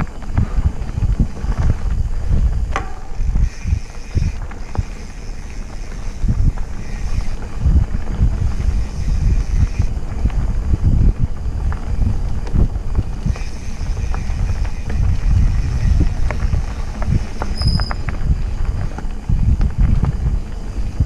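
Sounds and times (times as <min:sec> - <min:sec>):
bike clicks and rattles: 0:00.0 - 0:21.0
wind buffeting microphone: 0:00.0 - 0:21.0.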